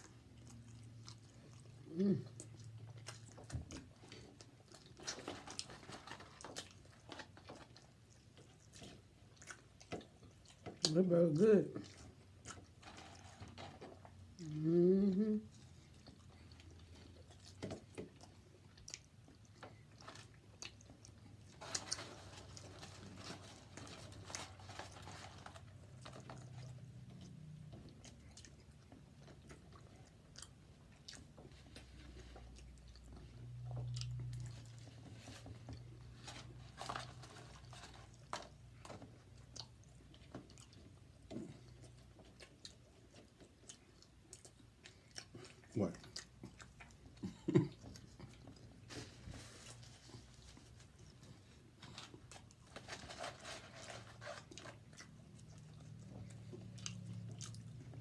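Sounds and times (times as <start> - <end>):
chewing food: 0.0 - 58.0.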